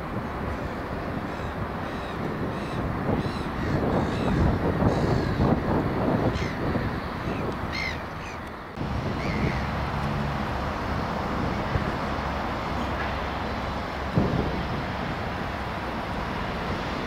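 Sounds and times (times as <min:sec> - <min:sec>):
distant diesel locomotive rumble: 0:00.0 - 0:17.0
wind: 0:00.0 - 0:17.0.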